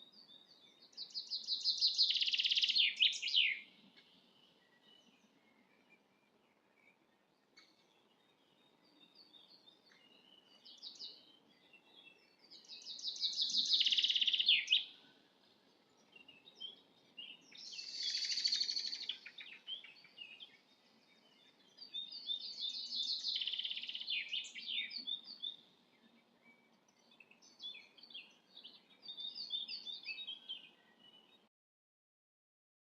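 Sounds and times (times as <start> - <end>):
songbirds singing: 0.0 - 31.5.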